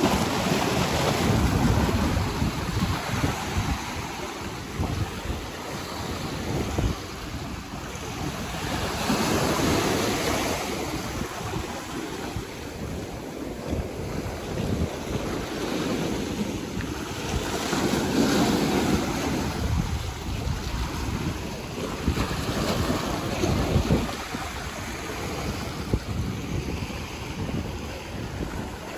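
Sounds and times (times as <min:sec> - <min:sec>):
ocean surf washing onto beach: 0:00.0 - 0:28.9
wind buffeting microphone: 0:00.0 - 0:28.9.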